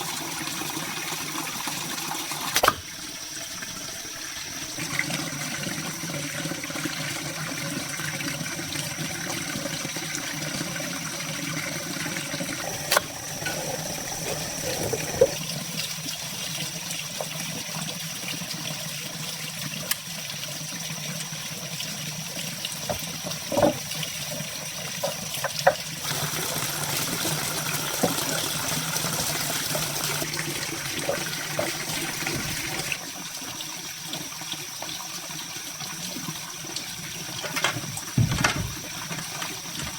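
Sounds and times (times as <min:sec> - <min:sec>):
water pouring: 0:00.0 - 0:39.9.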